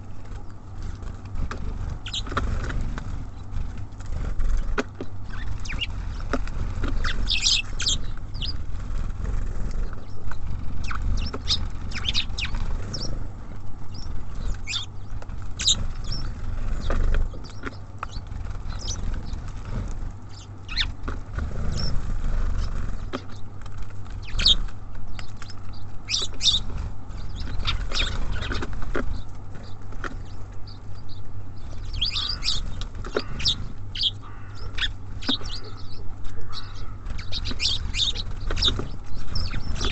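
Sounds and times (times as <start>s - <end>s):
small birds chirping: 0.0s - 39.9s
steady low rumble: 0.0s - 39.9s
wing flutters: 0.0s - 39.9s.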